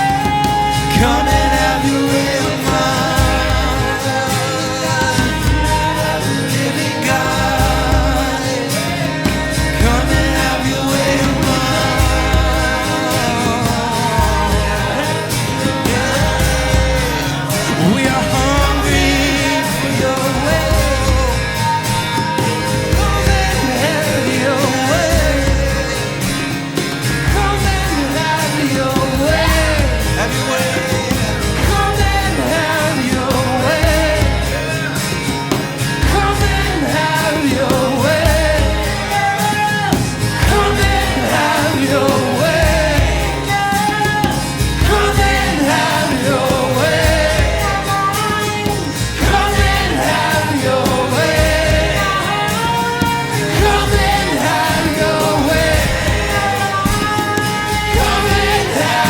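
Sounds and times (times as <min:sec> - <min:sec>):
person singing: 0:00.0 - 0:59.0
worship band music: 0:00.0 - 0:59.0.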